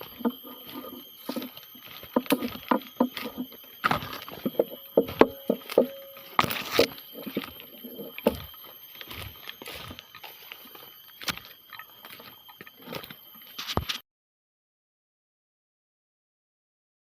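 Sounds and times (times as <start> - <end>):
clicks and rustles: 0.0 - 14.0
faint insect drone: 0.0 - 14.0.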